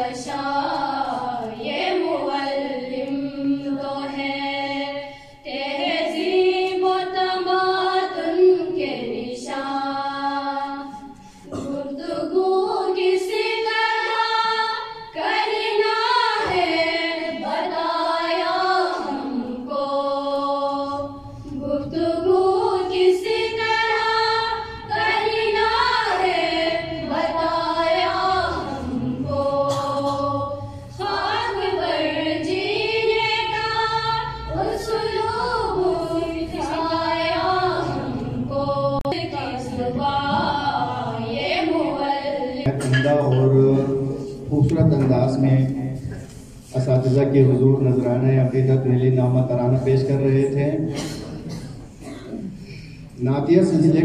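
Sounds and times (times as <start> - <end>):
girls singing in unison: 0.0 - 45.0.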